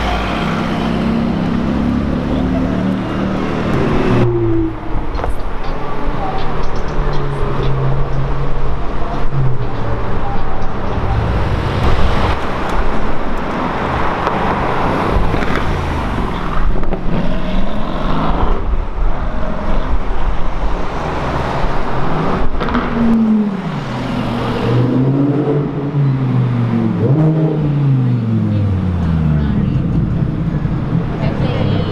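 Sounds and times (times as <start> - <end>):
supercar engines revving: 0.0 - 31.9.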